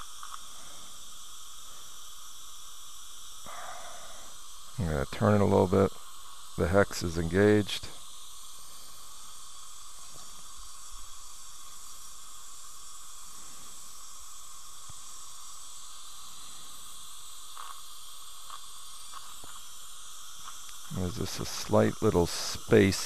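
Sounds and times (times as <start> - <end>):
dental suction hissing: 0.0 - 23.0.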